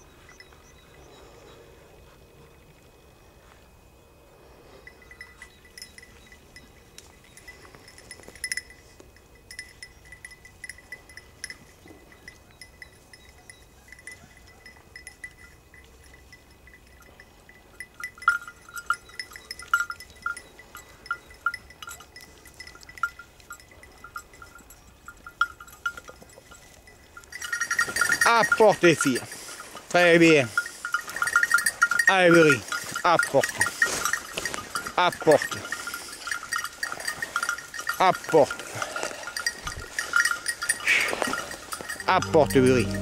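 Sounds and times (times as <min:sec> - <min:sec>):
small collar bell clinking: 0:04.6 - 0:43.0.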